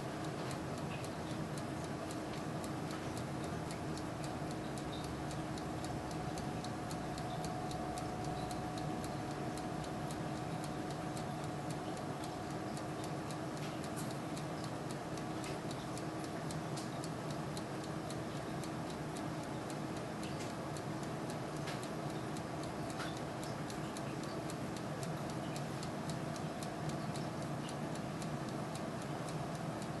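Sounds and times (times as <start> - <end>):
light irregular ticks: 0.0 - 30.0
oven fan whirring: 0.0 - 30.0.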